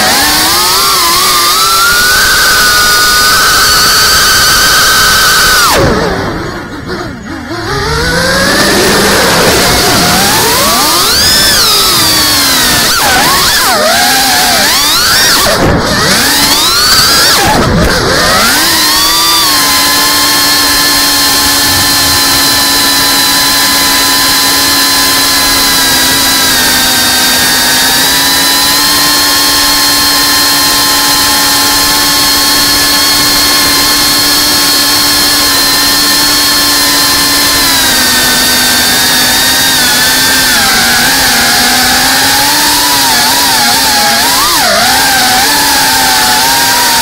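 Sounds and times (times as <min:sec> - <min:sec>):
drone propellers whining: 0:00.0 - 0:47.0.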